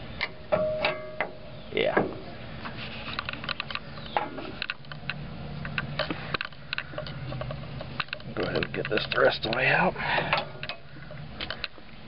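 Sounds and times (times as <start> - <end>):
light metal clicks and knocks: 0.2 - 11.9.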